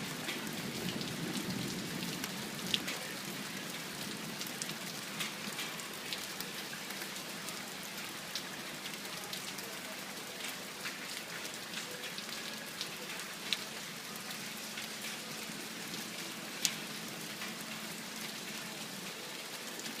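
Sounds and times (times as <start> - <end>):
heavy rain pouring: 0.0 - 20.0
sharp drips and splashes: 0.0 - 20.0.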